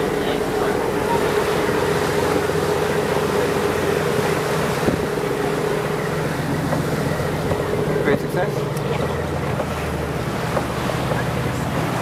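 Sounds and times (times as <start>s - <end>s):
boat engine droning: 0.0s - 12.0s
water rushing: 0.0s - 12.0s
wind: 0.0s - 12.0s.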